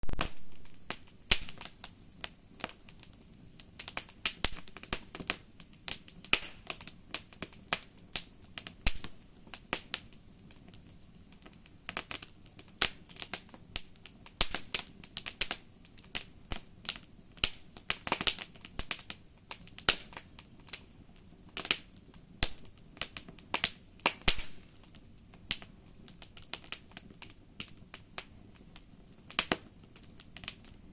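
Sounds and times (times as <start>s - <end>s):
campfire crackling: 0.0s - 30.9s
faint steady hiss: 0.0s - 30.9s.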